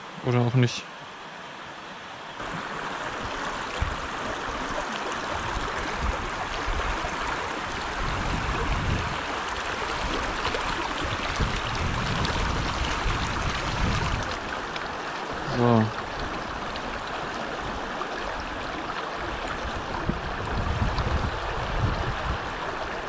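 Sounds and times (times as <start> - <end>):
river rushing over rocks: 0.9 - 23.0.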